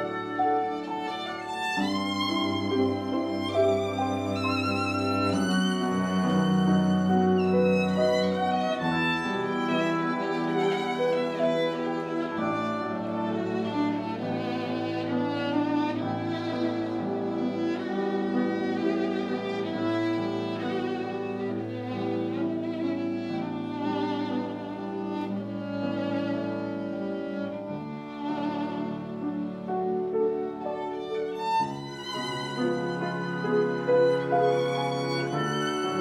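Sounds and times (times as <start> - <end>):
cello: 0.0 - 36.0
violin: 0.0 - 36.0.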